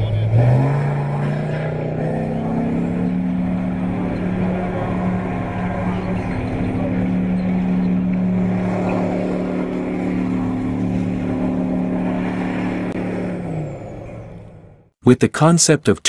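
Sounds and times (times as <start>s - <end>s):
tracked vehicle diesel engine: 0.0s - 15.0s.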